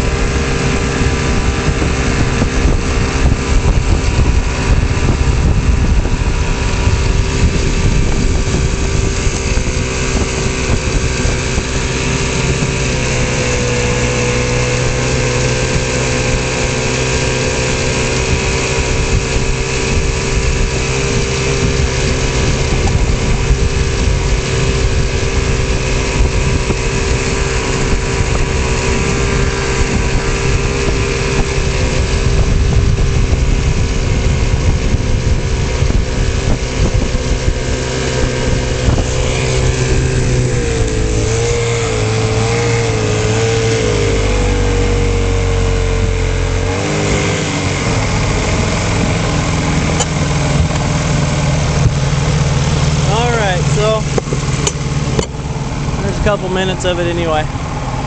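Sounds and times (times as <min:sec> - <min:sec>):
boat engine running: 0:00.0 - 0:58.0
rush of wind and water: 0:00.0 - 0:58.0.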